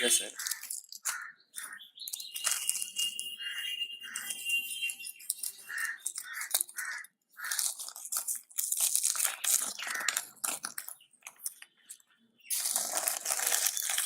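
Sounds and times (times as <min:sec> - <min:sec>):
packaging torn and crinkled: 0:00.3 - 0:03.3, 0:05.1 - 0:14.0.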